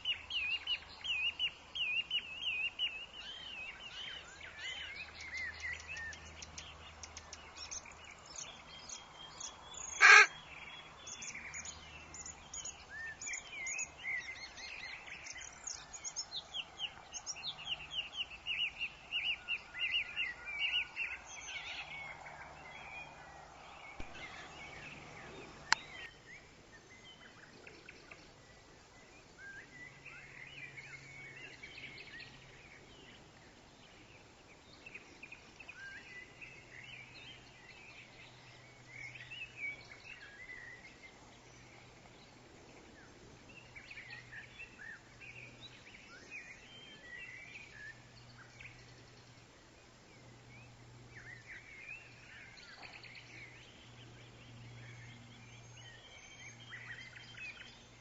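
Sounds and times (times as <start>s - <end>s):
songbirds chirping in trills: 0.0s - 58.0s.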